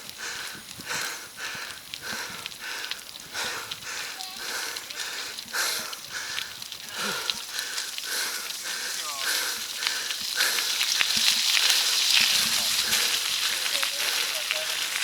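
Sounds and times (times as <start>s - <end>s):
heavy rapid breathing: 0.0s - 15.0s.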